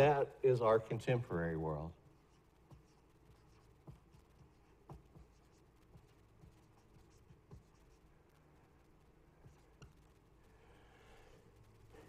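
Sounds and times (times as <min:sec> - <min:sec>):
marker writing on whiteboard: 0:02.0 - 0:12.0.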